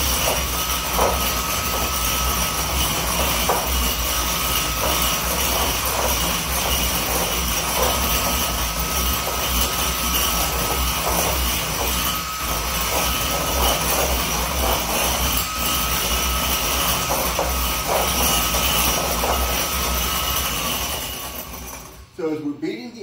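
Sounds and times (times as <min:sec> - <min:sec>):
electric hand mixer whining: 0:00.0 - 0:22.2.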